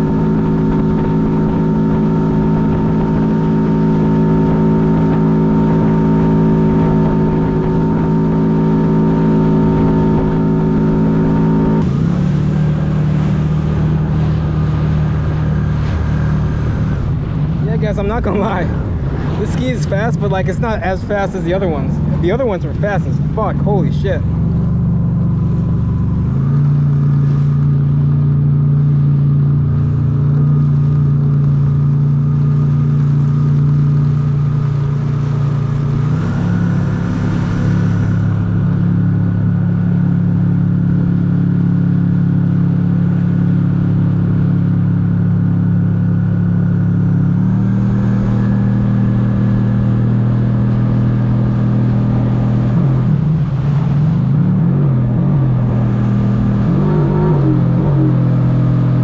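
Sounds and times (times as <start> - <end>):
jet ski engine droning: 0.0 - 59.0.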